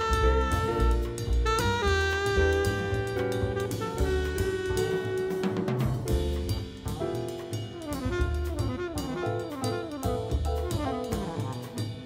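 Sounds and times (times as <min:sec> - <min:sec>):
horn melody: 0:00.0 - 0:06.2, 0:07.2 - 0:12.0
bass line: 0:00.0 - 0:12.0
drum kit: 0:00.0 - 0:12.0.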